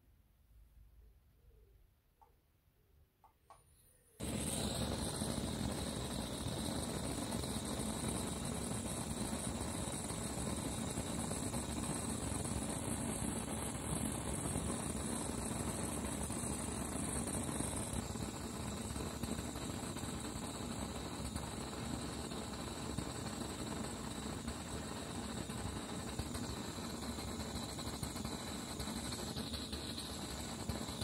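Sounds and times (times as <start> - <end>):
blow torch hissing: 4.2 - 31.0.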